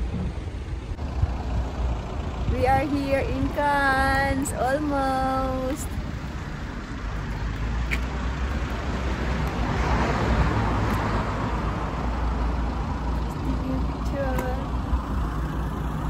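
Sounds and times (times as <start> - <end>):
steady low rumble: 0.0 - 9.8, 10.6 - 16.0
vehicle passing on road: 0.0 - 16.0.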